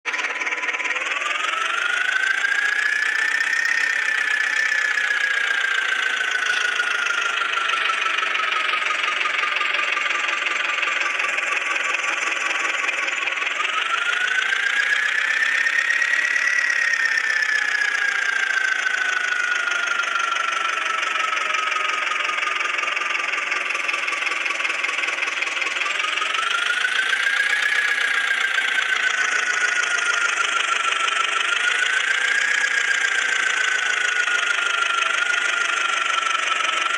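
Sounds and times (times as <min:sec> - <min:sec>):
tractor diesel engine revving: 0:00.1 - 0:17.0, 0:17.6 - 0:36.9.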